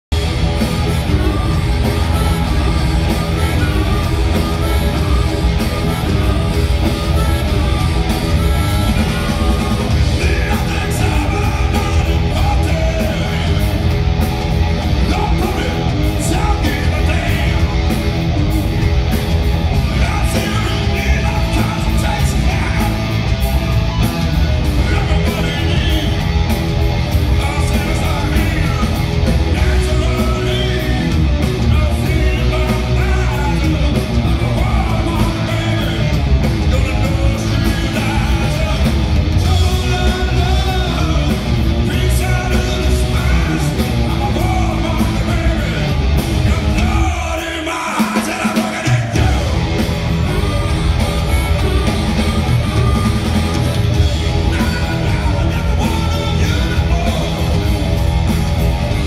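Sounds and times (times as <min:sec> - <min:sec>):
bass guitar: 0:00.0 - 0:59.0
drums: 0:00.0 - 0:59.0
electric guitar: 0:00.1 - 0:59.0
singer shouting and singing: 0:00.1 - 0:59.0.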